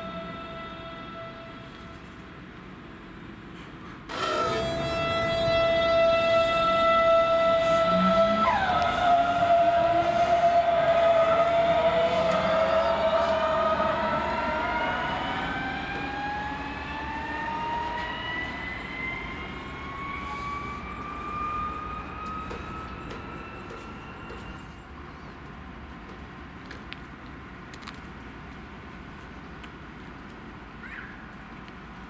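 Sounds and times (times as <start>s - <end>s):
electric train whine: 0.0s - 3.5s, 4.1s - 26.3s.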